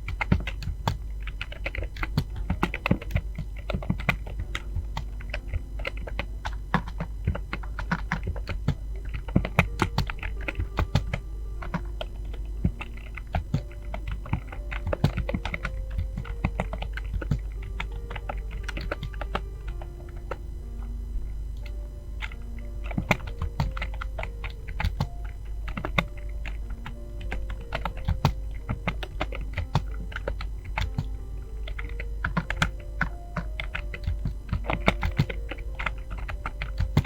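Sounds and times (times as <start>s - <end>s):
typing on computer keyboard: 0.0s - 20.4s, 21.6s - 37.0s
faint background music: 0.0s - 37.0s.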